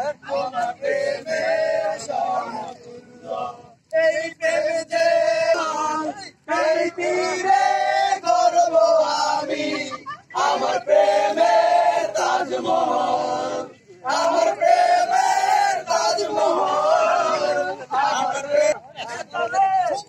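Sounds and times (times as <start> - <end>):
men singing in unison: 0.0 - 18.8.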